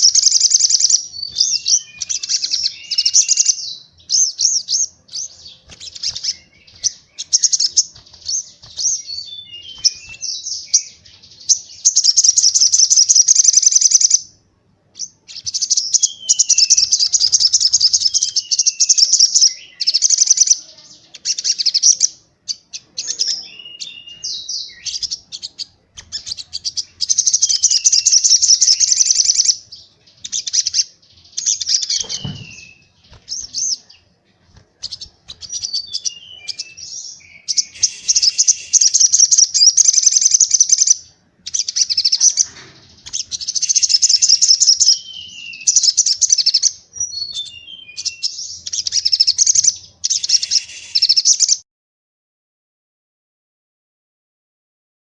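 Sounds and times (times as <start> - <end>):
bird trilling and chirping: 0.0 - 14.4, 15.0 - 51.6.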